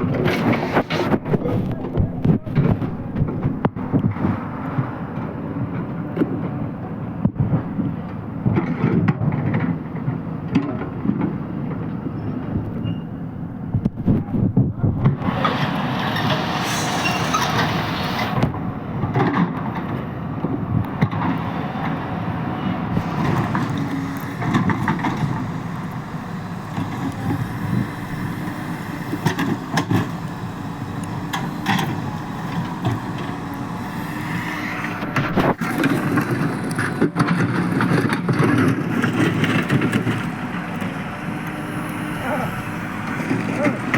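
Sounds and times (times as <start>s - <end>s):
excavator diesel engine working: 0.0s - 43.9s.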